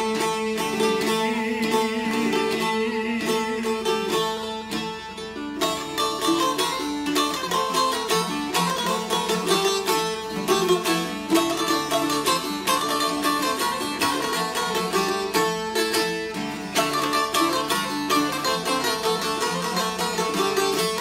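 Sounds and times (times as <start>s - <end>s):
plucked lutes playing: 0.0s - 21.0s.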